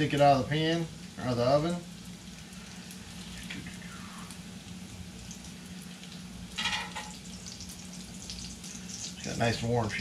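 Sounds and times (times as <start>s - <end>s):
bacon sizzling in a pot: 0.0s - 10.0s.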